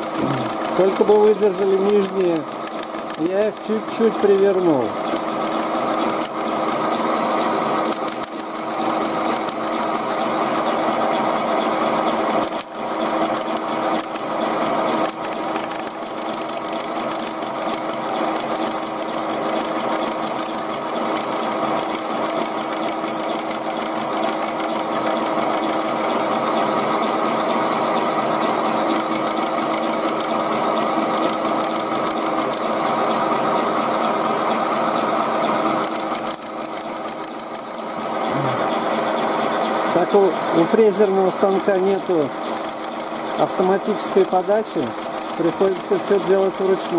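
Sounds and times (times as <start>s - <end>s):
milling machine grinding whir: 0.0s - 46.9s.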